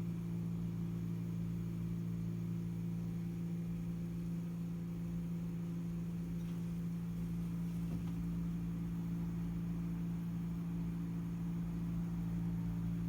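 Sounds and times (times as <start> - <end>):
air handling unit humming: 0.0 - 13.0.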